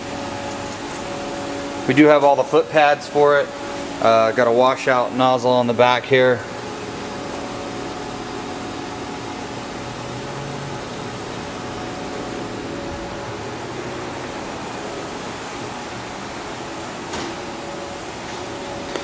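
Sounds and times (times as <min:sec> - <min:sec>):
machinery and ventilation hum: 0:00.0 - 0:19.0.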